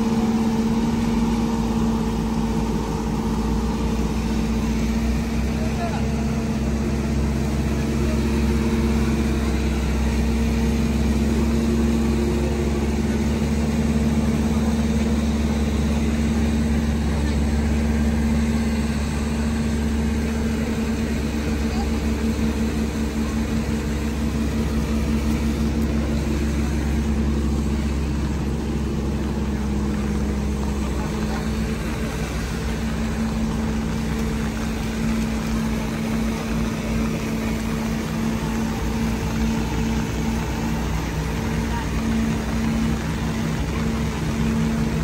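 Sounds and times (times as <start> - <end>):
large engine idling: 0.0 - 45.0.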